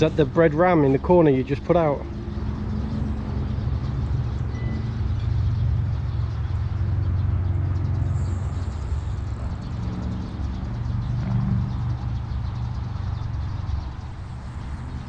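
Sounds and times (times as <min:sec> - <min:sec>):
motor running drone: 0:02.1 - 0:15.0.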